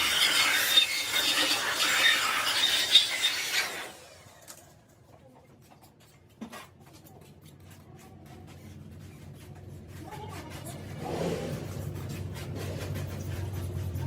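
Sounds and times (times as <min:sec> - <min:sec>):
rasping workshop tool: 0:00.0 - 0:04.3, 0:06.4 - 0:14.0.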